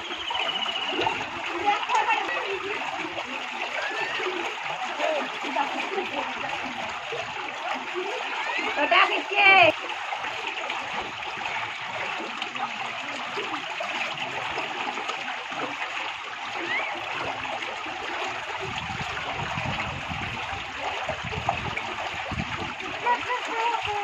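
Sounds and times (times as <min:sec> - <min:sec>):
deep water sloshing: 0:00.0 - 0:24.0
person wading through water: 0:00.0 - 0:24.0
water rushing in concrete channel: 0:00.0 - 0:24.0.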